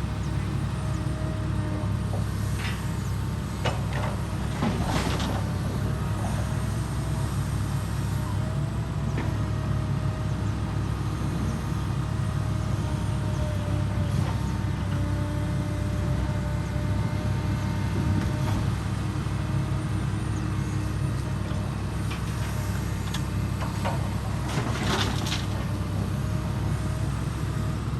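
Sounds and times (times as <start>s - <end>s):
diesel machinery engine rumble: 0.0s - 27.9s.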